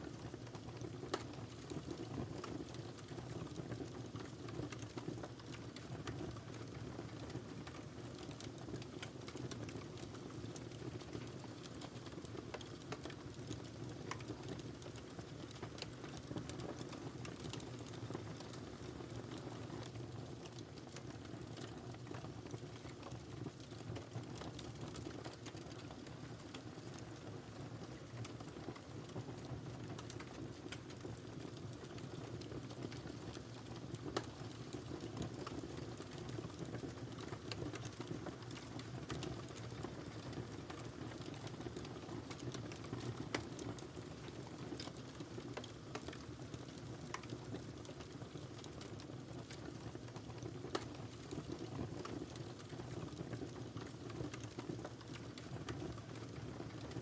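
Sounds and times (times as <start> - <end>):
wood fire crackling and hissing: 0.0 - 57.0.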